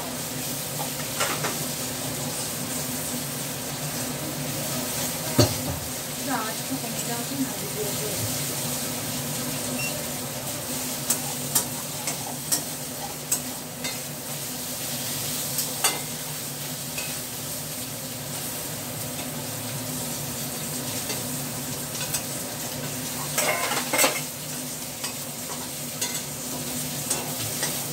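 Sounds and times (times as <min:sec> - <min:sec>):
food sizzling in a pan: 0:00.0 - 0:27.9.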